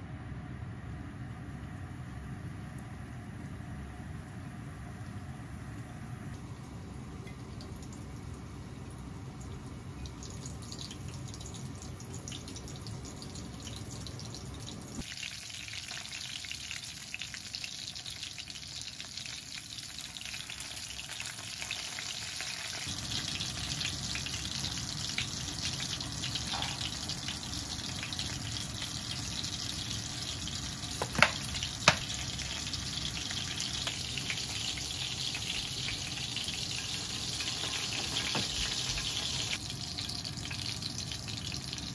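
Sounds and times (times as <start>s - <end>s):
fish deep-frying in oil: 6.3s - 41.9s.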